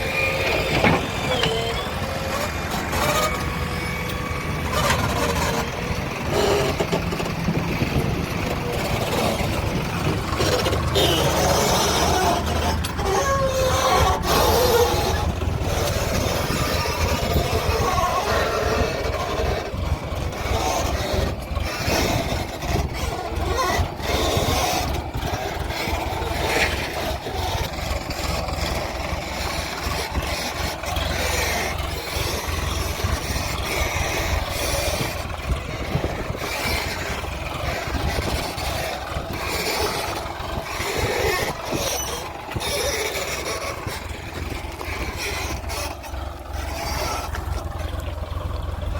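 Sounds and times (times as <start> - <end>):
heavy diesel engine under load: 0.0 - 48.9
knocks and clatter of digging: 0.1 - 48.9.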